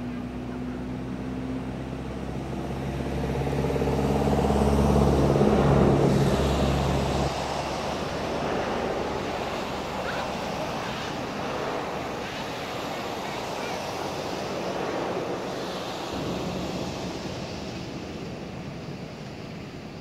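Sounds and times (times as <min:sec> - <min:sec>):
vehicle engine humming: 0:00.0 - 0:19.9
even rushing noise: 0:01.9 - 0:20.0.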